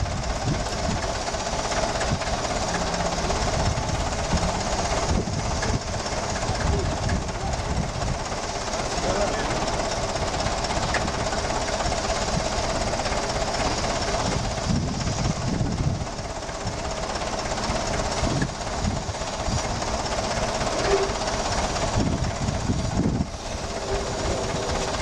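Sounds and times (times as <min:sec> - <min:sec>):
forklift engine running: 0:00.0 - 0:25.0.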